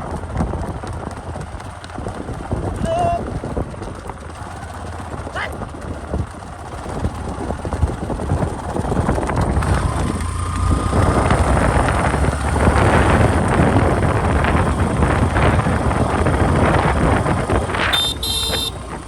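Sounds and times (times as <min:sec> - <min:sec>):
galloping horse hoofbeats: 0:00.0 - 0:19.0
wind buffeting microphone: 0:00.0 - 0:19.0.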